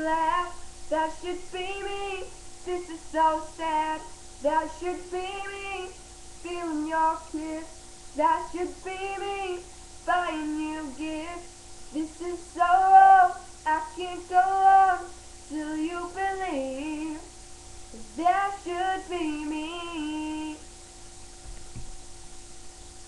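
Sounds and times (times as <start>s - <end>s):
girl singing slow melody: 0.0s - 20.9s.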